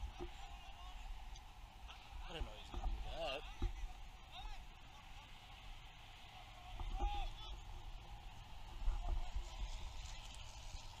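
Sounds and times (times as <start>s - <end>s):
faint shouted voices: 0.0s - 11.0s.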